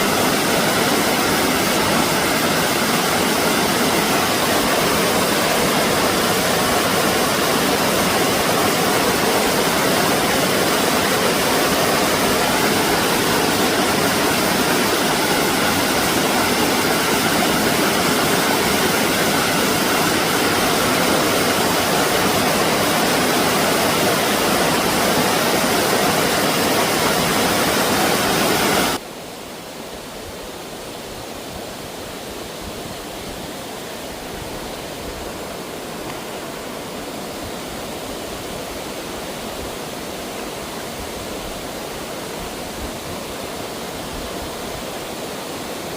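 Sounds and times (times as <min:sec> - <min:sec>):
rushing stream water: 0:00.0 - 0:45.9.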